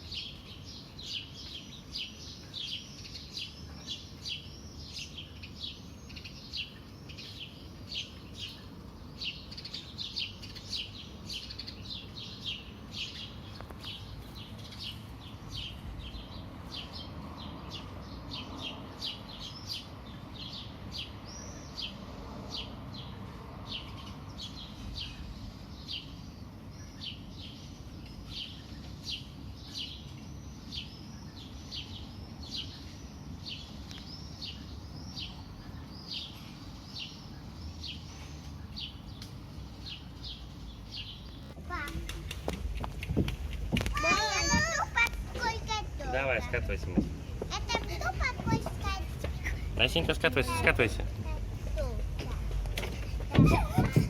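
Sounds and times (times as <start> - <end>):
small songbirds chirping: 0.0 - 54.0.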